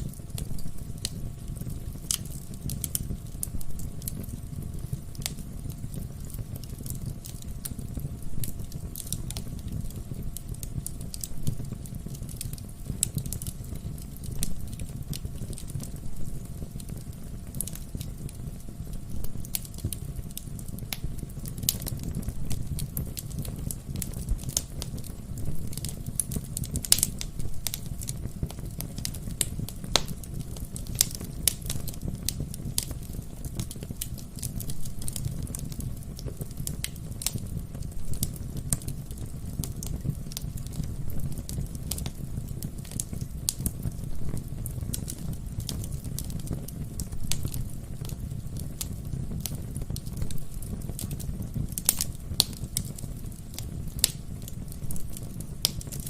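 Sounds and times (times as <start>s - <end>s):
logs crackling and popping: 0.0s - 56.0s
low rumble of flames: 0.0s - 56.0s.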